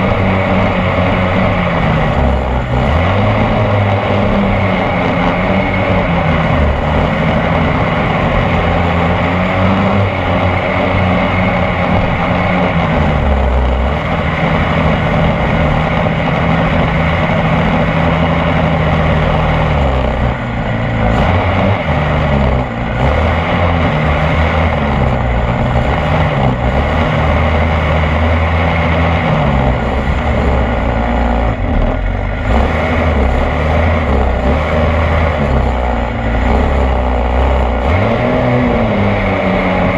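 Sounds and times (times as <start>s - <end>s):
steady rushing noise: 0.0s - 39.9s
two-stroke engine revving: 0.0s - 39.9s.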